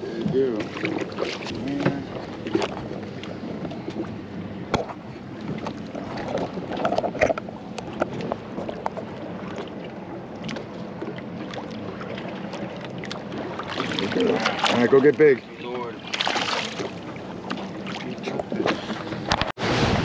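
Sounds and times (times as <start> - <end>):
boat motor: 0.0 - 20.0
water noise: 0.0 - 20.0.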